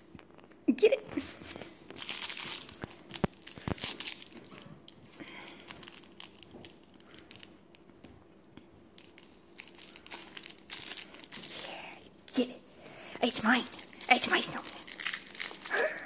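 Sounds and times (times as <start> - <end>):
plush toy crinkling as puppy chews: 1.2 - 12.5, 13.2 - 16.0.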